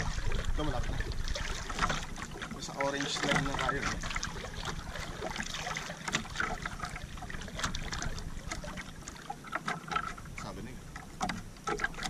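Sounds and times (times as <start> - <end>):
small splashes and knocks: 0.0 - 12.0
water lapping against canoe hull: 0.0 - 12.0.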